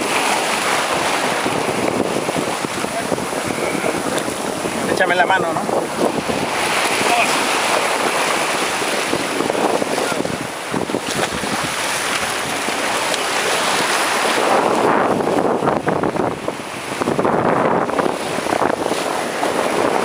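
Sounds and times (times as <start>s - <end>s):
surf splashing on rocks: 0.0s - 20.0s
wind buffeting microphone: 0.0s - 20.0s.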